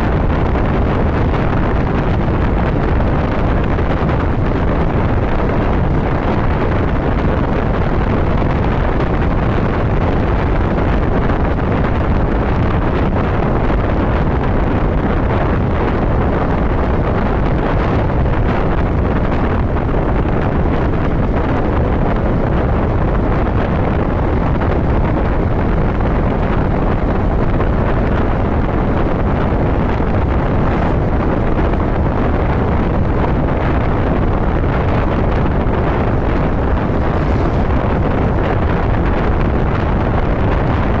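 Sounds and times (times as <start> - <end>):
motorcycle and road rumble: 0.0 - 41.0
wind rush on microphone: 0.0 - 41.0.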